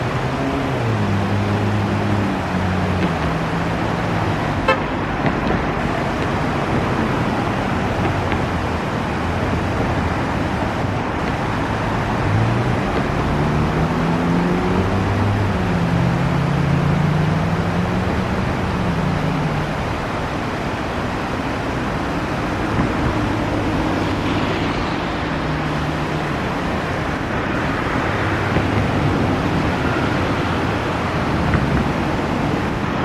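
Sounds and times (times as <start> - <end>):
river water over rapids: 0.0 - 33.0
traffic crossing a bridge: 0.0 - 33.0.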